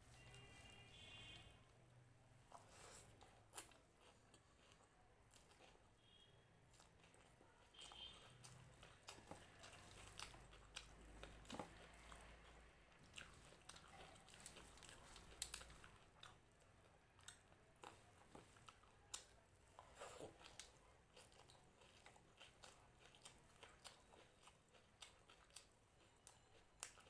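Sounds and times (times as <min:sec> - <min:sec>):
person chewing crunchy food: 0:02.5 - 0:27.0.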